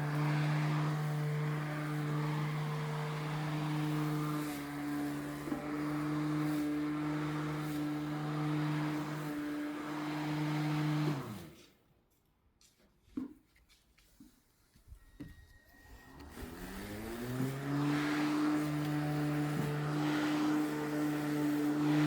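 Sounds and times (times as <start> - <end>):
electric lawn mower humming: 0.0 - 11.6, 15.8 - 22.0.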